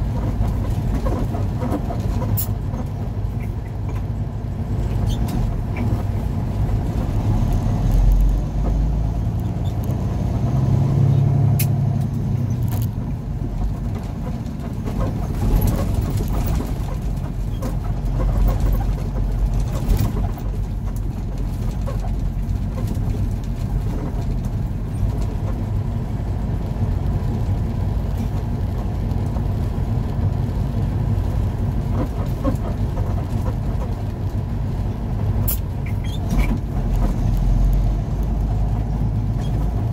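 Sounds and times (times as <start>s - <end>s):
road noise: 0.0s - 39.9s
truck engine rumbling: 0.0s - 39.9s.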